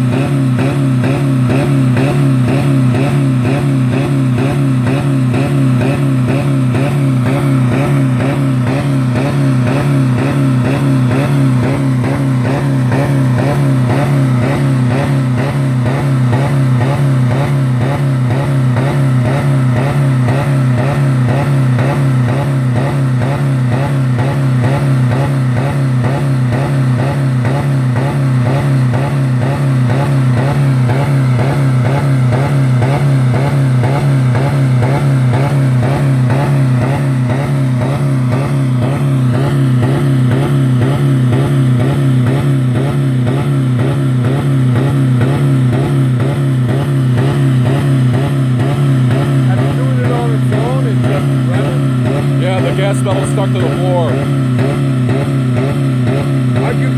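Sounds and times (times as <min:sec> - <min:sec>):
car engine at high revs: 0:00.0 - 0:56.9.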